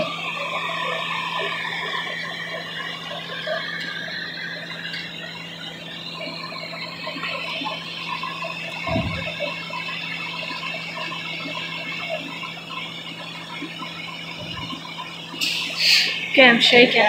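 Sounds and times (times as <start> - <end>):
high wavering squeal: 0.0 - 17.0
hydraulic equipment hum: 0.0 - 17.0.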